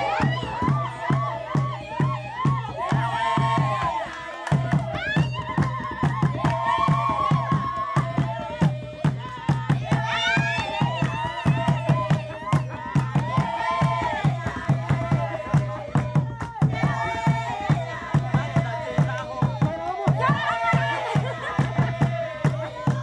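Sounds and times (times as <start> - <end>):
regular drum beat: 0.0 - 23.0
voices singing: 0.0 - 23.0.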